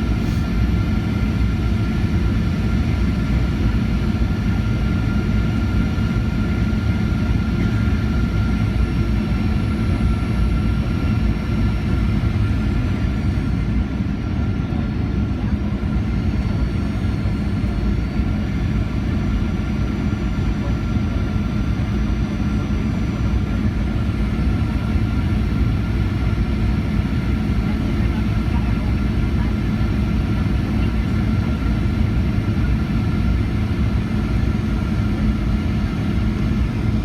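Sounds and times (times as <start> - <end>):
airliner cabin engine rumble: 0.0 - 37.0.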